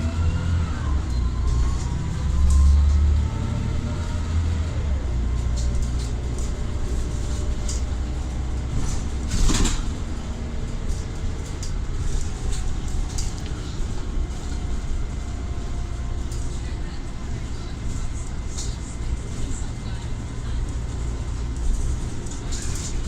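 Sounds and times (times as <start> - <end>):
bus engine rumbling: 0.0 - 23.0.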